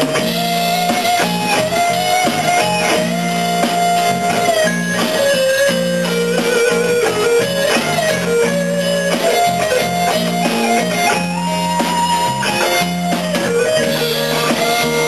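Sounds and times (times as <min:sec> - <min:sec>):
live band playing soul music: 0:00.0 - 0:15.0.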